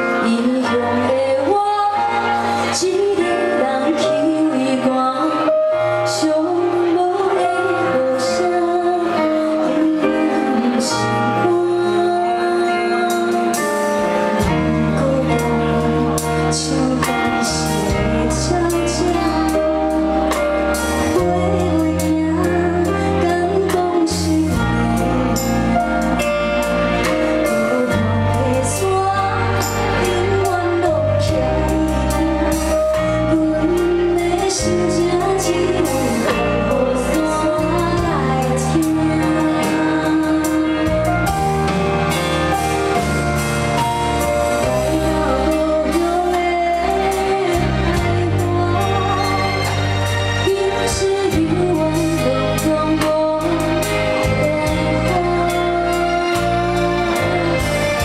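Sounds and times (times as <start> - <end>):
women singing a ballad: 0.0 - 41.5, 44.5 - 58.0
band accompaniment: 0.0 - 58.0
bass line: 6.2 - 58.0.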